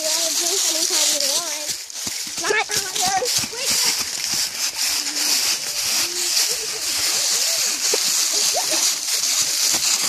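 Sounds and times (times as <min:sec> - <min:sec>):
footsteps crunching dry leaves: 0:00.0 - 0:10.0.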